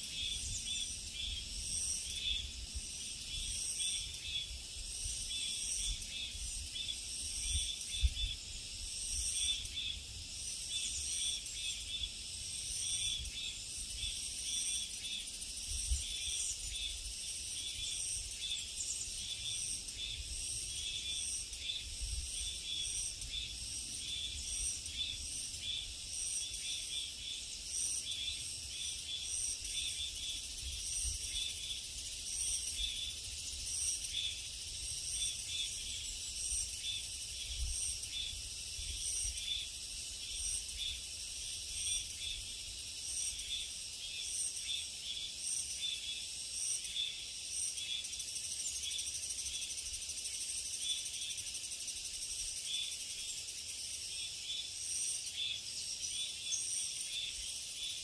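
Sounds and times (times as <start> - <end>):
insects singing in pulses: 0.0 - 58.0.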